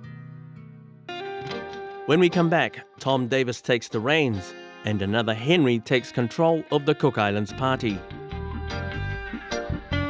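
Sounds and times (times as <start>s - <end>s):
instrumental theme music: 0.0s - 10.0s.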